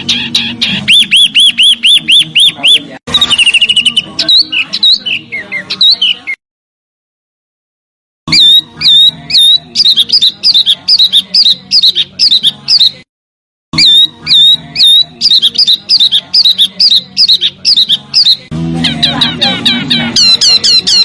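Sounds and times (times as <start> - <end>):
bird chirping quickly: 0.0 - 6.4, 8.3 - 13.0, 13.8 - 21.0
songbird chirping: 0.0 - 6.4, 8.3 - 13.1, 13.8 - 21.0.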